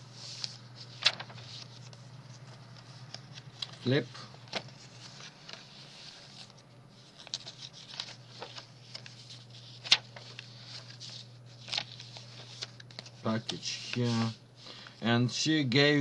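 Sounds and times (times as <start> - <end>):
paper rustling: 0.1 - 15.0.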